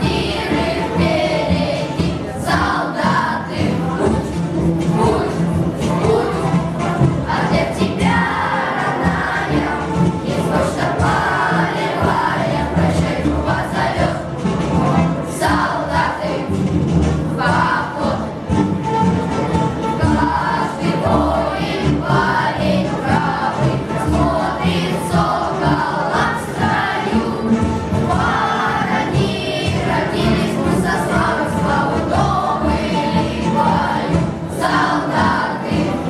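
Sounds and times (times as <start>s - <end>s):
choir singing with accompaniment: 0.0s - 36.0s.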